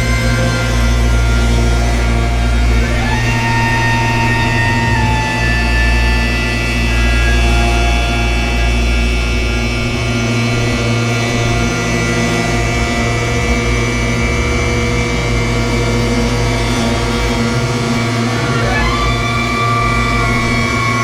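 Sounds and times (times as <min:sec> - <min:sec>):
electronic drone with held tones: 0:00.0 - 0:21.0
fluttering bass pulse: 0:00.0 - 0:21.0.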